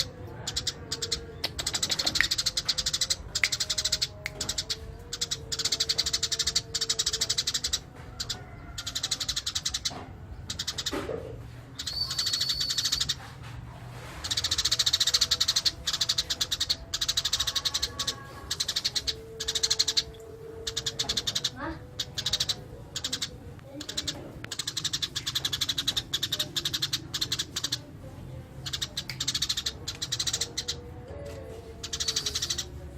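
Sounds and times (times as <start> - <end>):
sparrow chirping: 0.0 - 11.0, 11.7 - 13.3, 14.2 - 32.9.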